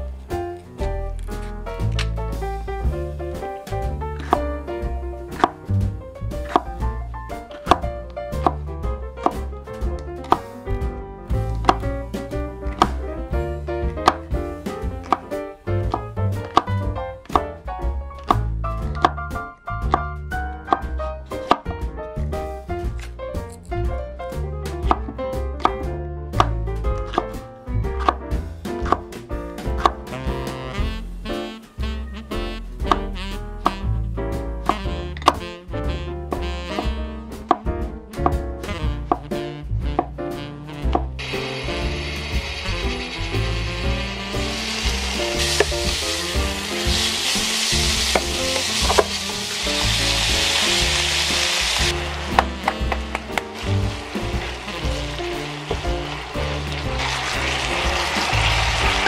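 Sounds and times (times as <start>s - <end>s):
background music: 0.0s - 59.0s.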